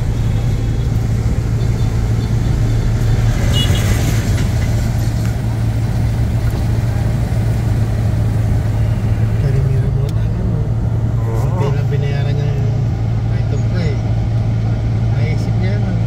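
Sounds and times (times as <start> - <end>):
engine and road drone: 0.0 - 16.0.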